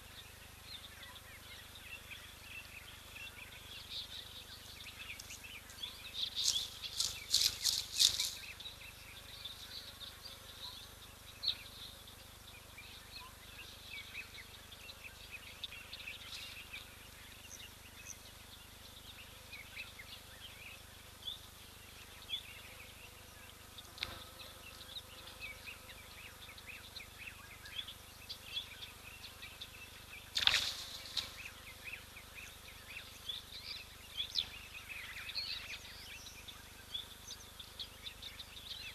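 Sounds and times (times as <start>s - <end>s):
faint steady hiss: 0.0s - 38.9s
small birds chirping: 0.0s - 38.9s.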